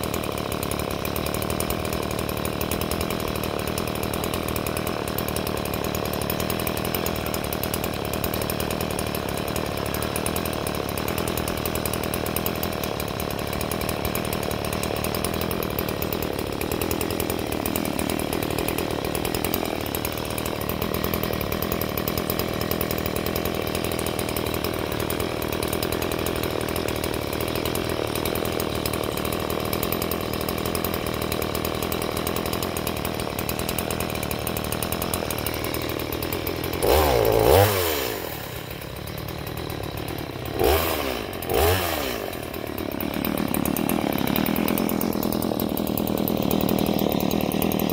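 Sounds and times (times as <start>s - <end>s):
chainsaw idling: 0.0s - 47.9s.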